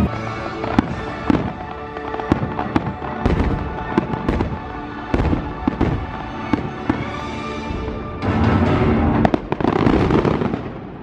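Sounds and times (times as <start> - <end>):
fireworks bursting with sharp bangs: 0.0 - 11.0
music playing: 0.0 - 11.0.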